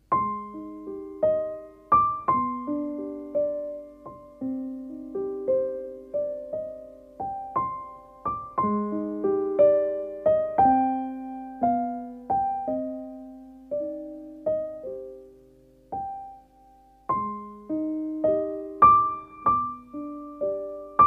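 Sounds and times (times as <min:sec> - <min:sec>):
gentle piano-like keyboard melody: 0:00.0 - 0:21.0.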